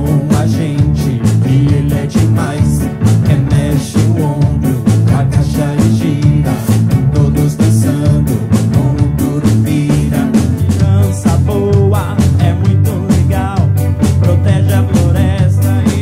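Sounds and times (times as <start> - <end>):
acoustic guitar: 0.0 - 16.0
drum kit beat: 0.0 - 16.0.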